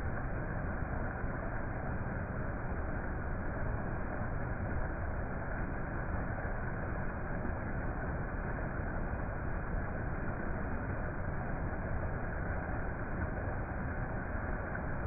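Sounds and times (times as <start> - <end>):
steady rumble or hiss: 0.0 - 15.0.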